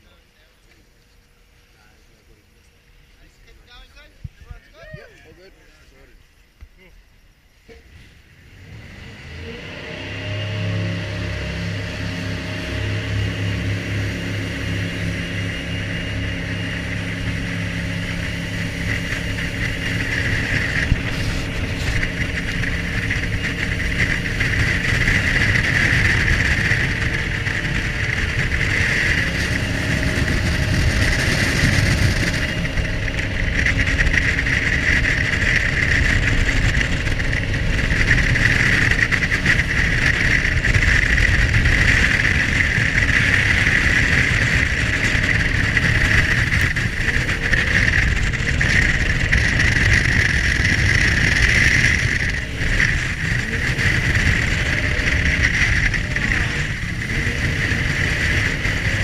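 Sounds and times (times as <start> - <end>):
boat engine drone: 0.0 - 59.0
water rushing around hull: 7.9 - 59.0.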